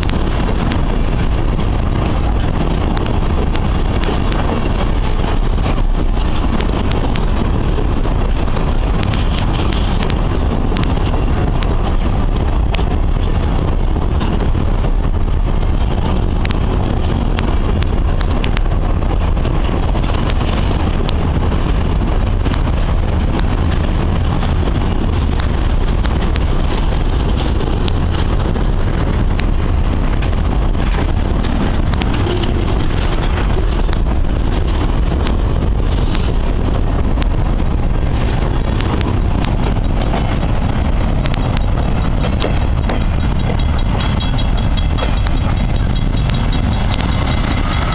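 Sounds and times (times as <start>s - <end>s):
freight train rumbling: 0.0s - 47.9s
train wheels clicking and knocking: 0.0s - 47.9s.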